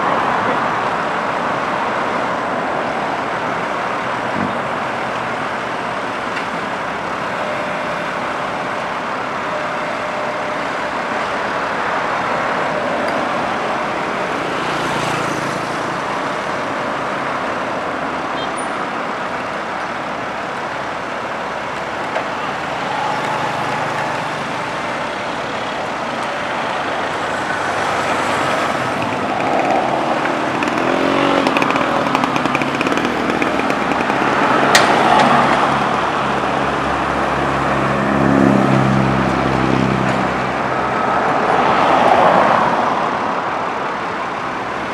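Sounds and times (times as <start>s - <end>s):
diesel machinery running: 0.6s - 41.6s.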